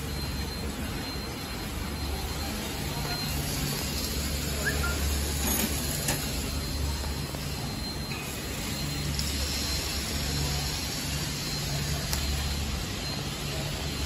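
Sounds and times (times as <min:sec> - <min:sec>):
packing machine humming: 0:00.0 - 0:14.0.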